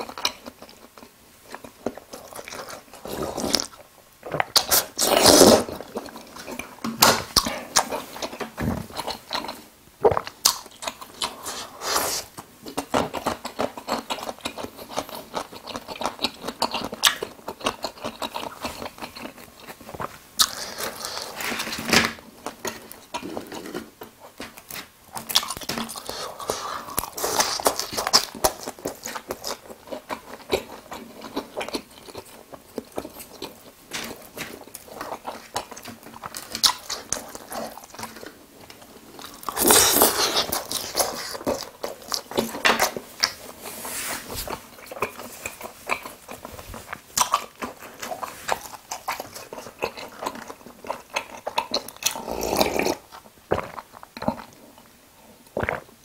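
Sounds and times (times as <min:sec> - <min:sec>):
chewing and crunching fried food: 0:00.0 - 0:43.8, 0:44.4 - 0:56.0.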